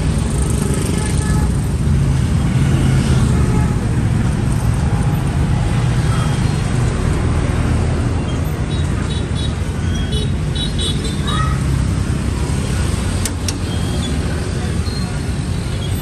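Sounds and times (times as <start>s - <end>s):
passing vehicles rumble: 0.0s - 16.0s.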